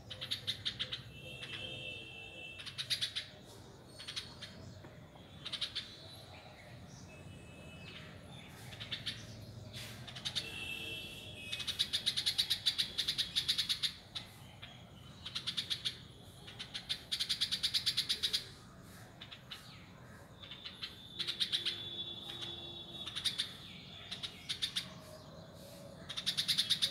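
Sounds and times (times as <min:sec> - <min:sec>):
birds chattering trills: 0:00.0 - 0:26.9.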